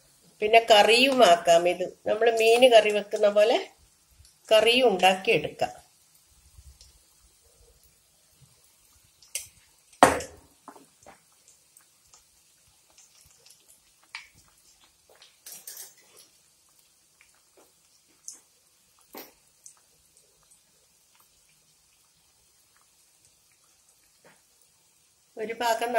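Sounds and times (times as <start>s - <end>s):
oil popping and crackling: 0.4s - 25.9s.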